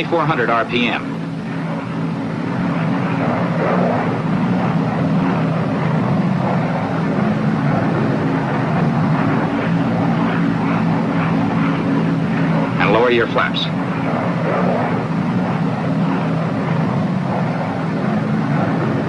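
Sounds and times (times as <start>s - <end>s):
aircraft engines droning: 0.0s - 19.0s.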